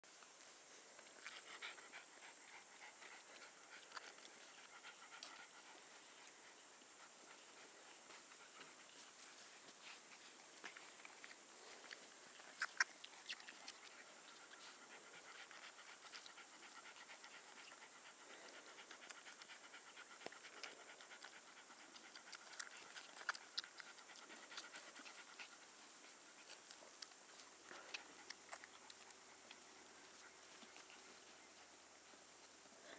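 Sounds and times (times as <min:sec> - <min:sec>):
dog panting: 0:01.0 - 0:32.9.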